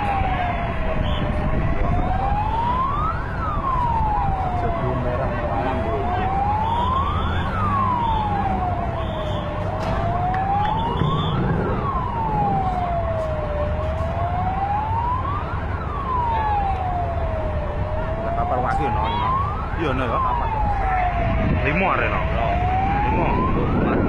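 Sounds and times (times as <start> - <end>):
siren wailing: 0.0 - 24.0.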